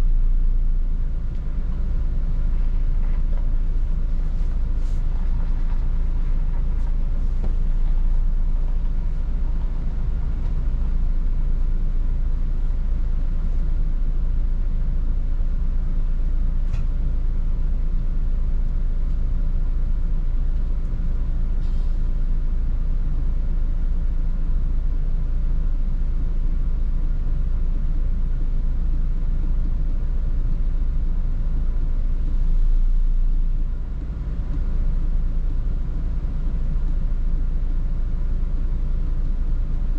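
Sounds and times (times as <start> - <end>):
bus engine running: 0.0 - 39.9
road and tyre rumble: 0.0 - 39.9.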